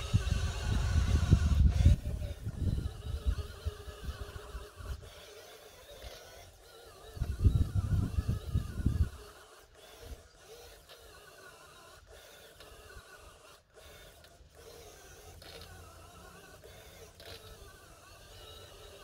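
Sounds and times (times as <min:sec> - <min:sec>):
toy truck electric motor whine: 0:00.0 - 0:19.0.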